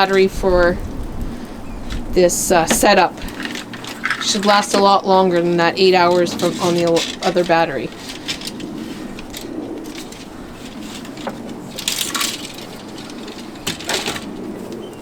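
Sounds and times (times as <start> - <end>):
gear rustling and knocking: 1.8 - 15.0.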